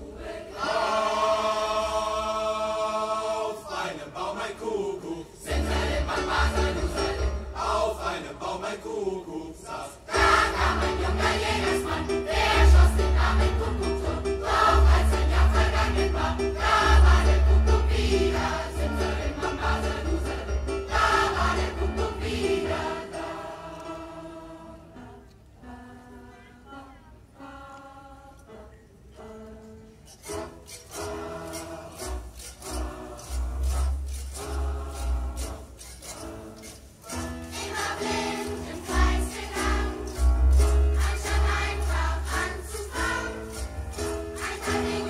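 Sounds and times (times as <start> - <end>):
choir singing with accompaniment: 0.0 - 45.0.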